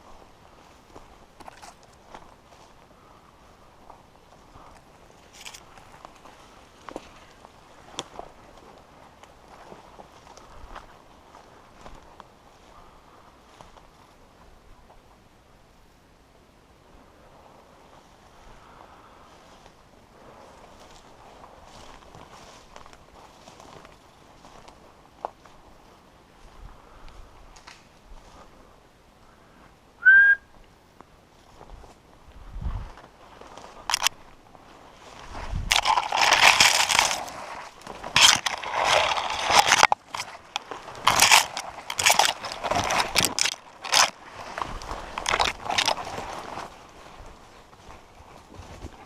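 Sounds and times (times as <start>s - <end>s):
footsteps crunching on forest floor: 0.0s - 15.0s, 17.8s - 28.8s, 31.0s - 49.0s.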